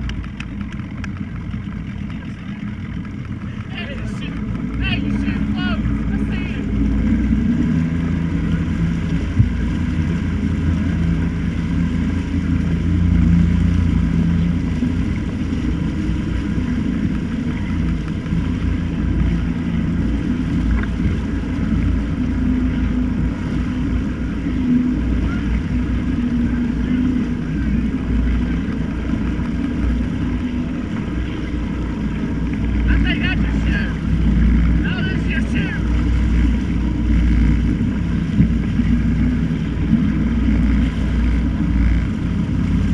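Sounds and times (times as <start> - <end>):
motorboat engine running: 0.0 - 42.9
rush of wind and water: 0.0 - 42.9.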